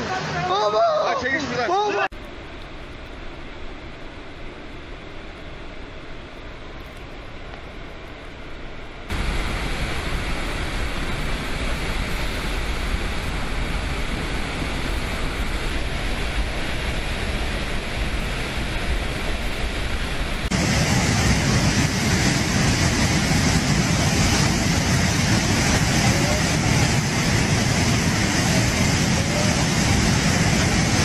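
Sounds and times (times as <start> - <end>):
water rushing through floodgates: 0.0 - 7.3, 9.1 - 31.0
rough torrent rushing: 0.0 - 31.0.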